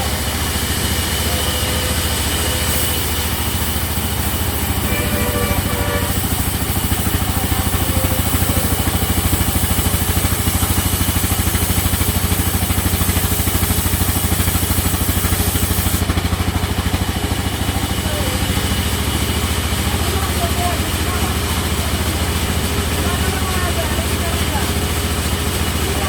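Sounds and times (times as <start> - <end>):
sawmill machinery drone: 0.0 - 26.0.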